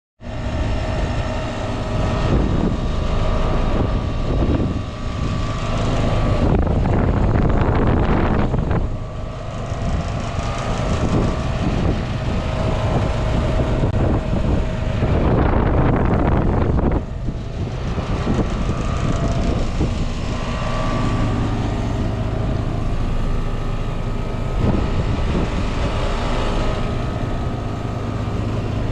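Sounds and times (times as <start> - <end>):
heat pump compressor and fan hum: 0.2 - 28.9
rush of noise: 0.2 - 28.9.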